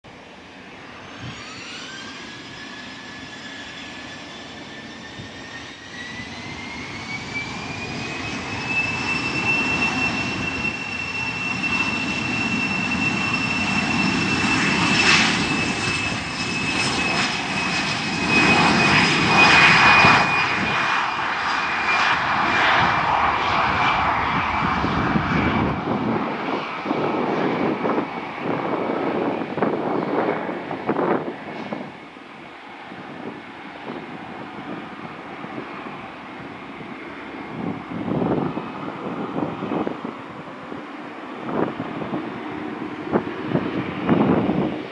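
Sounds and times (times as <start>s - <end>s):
jet engine whine: 0.0s - 44.9s
jet rumble: 0.1s - 44.9s.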